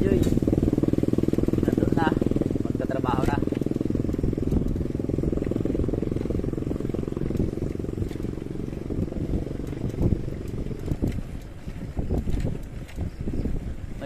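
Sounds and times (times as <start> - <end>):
uneven low rumbling: 0.0 - 14.0
vehicle engine running: 0.0 - 14.0.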